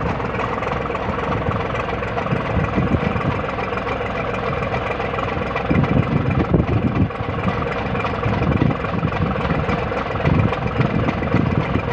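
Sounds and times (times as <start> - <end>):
diesel boat engine drone: 0.0 - 11.9.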